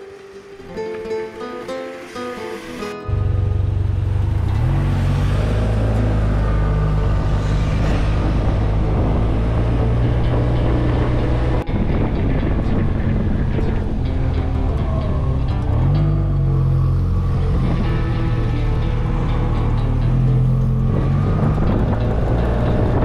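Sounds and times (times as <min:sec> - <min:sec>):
road and wind noise: 0:00.0 - 0:23.0
motorcycle engine running: 0:03.1 - 0:23.0.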